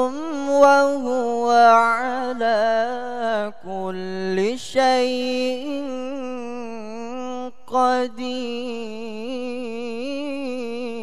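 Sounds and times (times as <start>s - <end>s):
boy reciting melodically: 0.0s - 11.0s.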